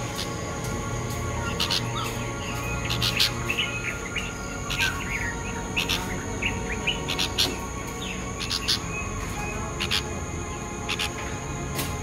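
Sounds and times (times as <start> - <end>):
birds chirping: 0.0 - 12.0
high insect-like whine: 0.0 - 12.0.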